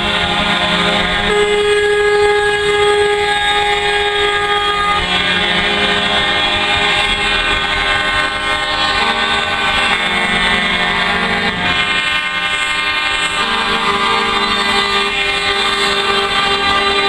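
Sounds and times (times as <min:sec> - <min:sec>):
heavy truck engines running: 0:00.0 - 0:17.0
lorry air horn blast: 0:00.0 - 0:17.0.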